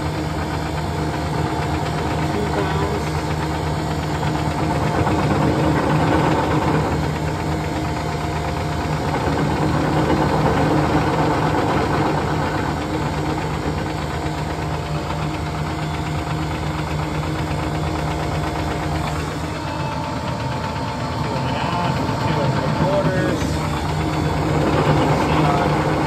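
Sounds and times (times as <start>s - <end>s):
constant tones: 0.0s - 26.0s
refrigeration machine humming: 0.0s - 26.0s.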